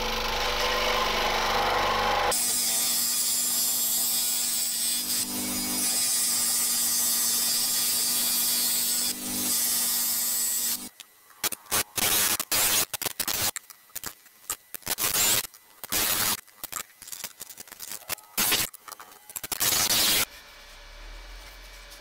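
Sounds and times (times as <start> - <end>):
electric scroll saw cutting wood: 0.0 - 12.9, 14.9 - 16.4, 17.8 - 21.8.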